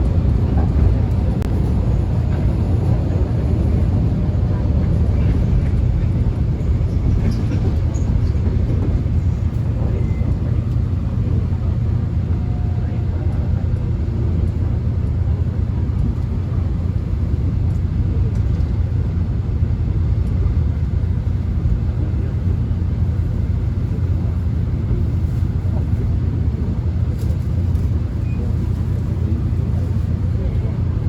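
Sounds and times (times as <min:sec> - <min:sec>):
subway train rumbling on track: 0:00.0 - 0:31.0.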